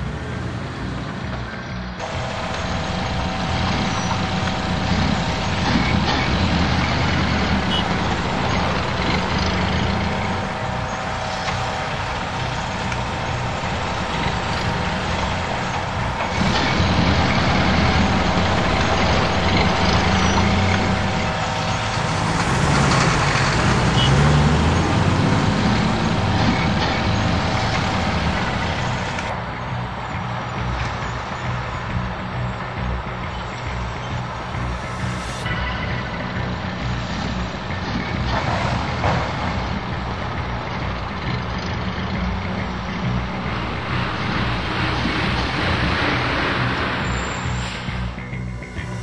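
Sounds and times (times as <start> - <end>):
conveyor whine: 0.0 - 49.0
diesel engines rumbling: 0.0 - 49.0.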